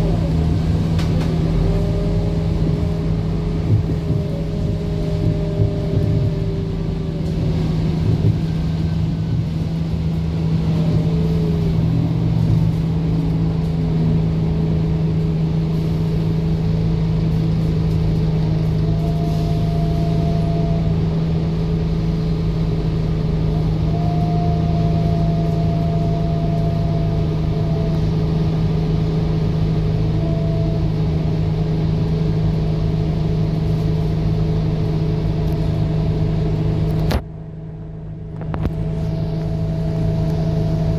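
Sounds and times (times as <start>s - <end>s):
bus engine drone: 0.0s - 40.9s
faint whine: 0.0s - 40.9s.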